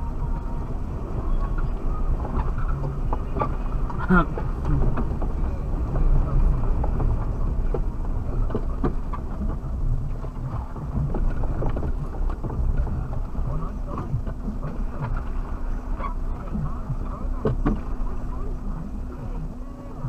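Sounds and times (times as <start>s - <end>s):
vehicle engine running: 0.0s - 20.0s
vehicle knocks and rattles: 0.0s - 20.0s.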